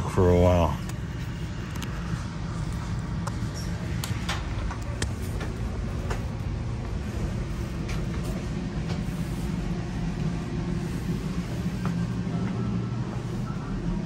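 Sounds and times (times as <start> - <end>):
train wheels rumbling on rails: 2.0 - 13.5.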